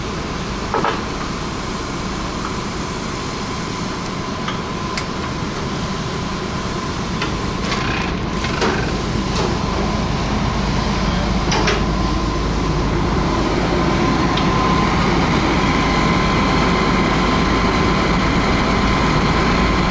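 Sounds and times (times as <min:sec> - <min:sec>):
diesel engine running: 0:00.0 - 0:19.9
steady whine: 0:00.0 - 0:19.9.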